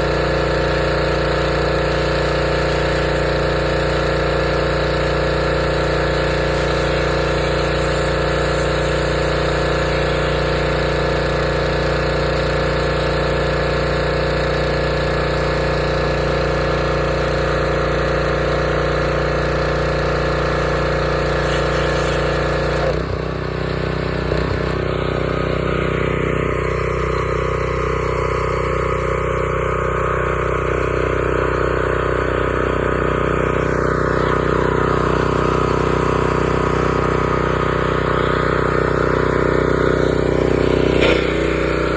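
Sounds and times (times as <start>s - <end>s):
pressure washer engine running: 0.0s - 41.9s.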